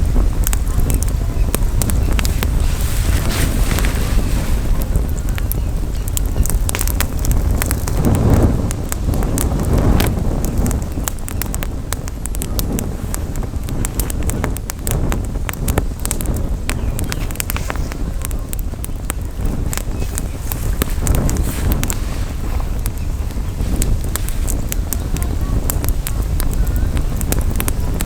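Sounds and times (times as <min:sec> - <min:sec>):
campfire crackling and popping: 0:00.0 - 0:28.0
wind rumble on microphone: 0:00.0 - 0:28.0.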